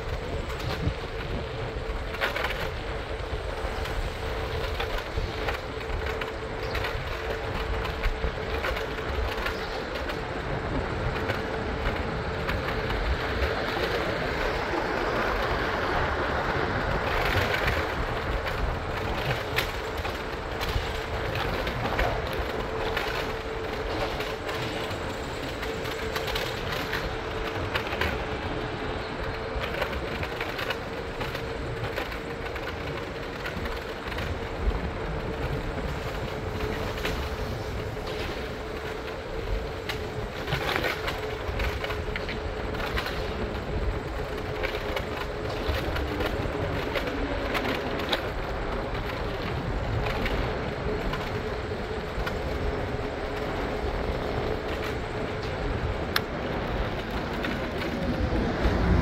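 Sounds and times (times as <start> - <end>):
constant hum: 0.0 - 59.0
train rumbling on track: 0.0 - 59.0
wheels clicking and knocking: 0.0 - 59.0.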